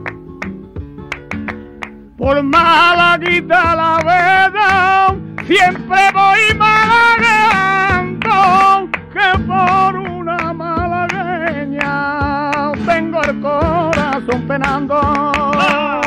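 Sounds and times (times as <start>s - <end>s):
flamenco guitar: 0.0s - 16.0s
man singing flamenco: 2.2s - 16.0s.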